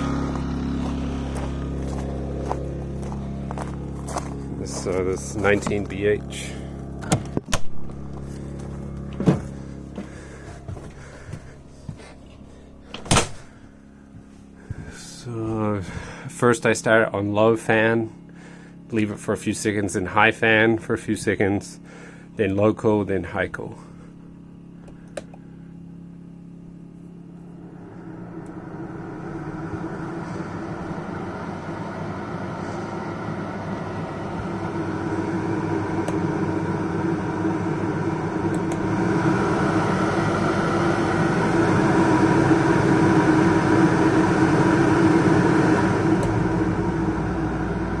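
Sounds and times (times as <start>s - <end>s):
air conditioner fan and motor hum: 0.0s - 48.0s.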